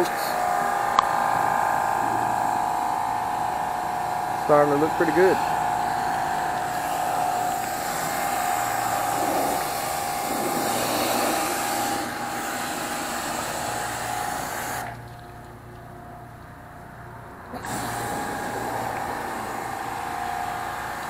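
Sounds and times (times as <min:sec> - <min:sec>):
pressure washer motor whine: 0:00.0 - 0:21.0
water jet spraying hull: 0:00.0 - 0:21.0.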